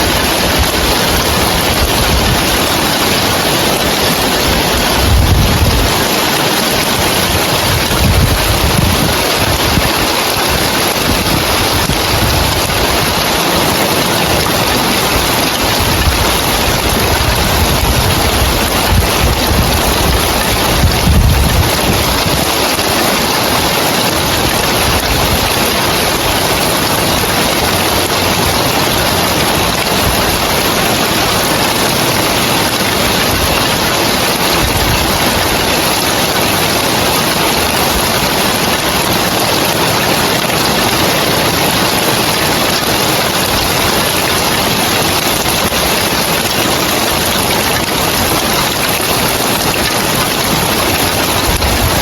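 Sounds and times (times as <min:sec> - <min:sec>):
rain on roof tiles: 0:00.0 - 0:52.0.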